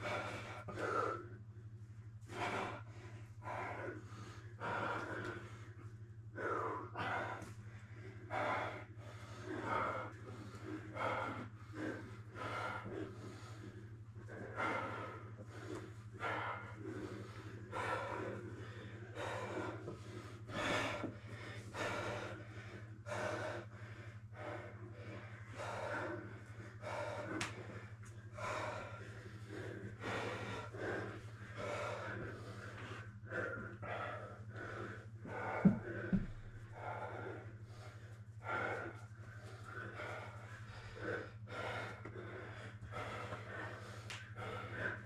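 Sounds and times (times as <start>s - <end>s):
person breathing hard: 0.0s - 45.0s
steady low hum: 0.0s - 45.0s.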